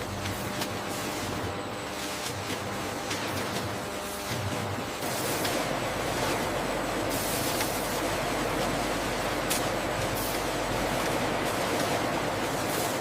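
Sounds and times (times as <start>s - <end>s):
factory machinery rumbling hiss: 0.0s - 13.0s.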